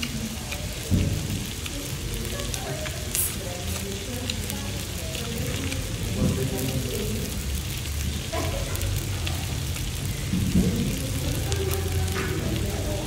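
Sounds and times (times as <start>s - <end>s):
meat sizzling on a grill pan: 0.0s - 13.0s.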